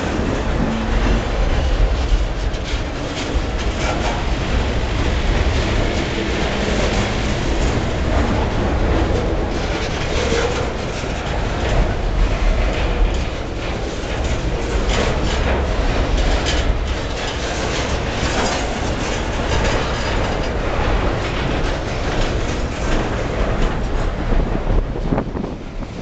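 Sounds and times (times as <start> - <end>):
train cars rumbling and rattling: 0.0 - 26.0
wheels clicking over rail joints: 0.0 - 26.0.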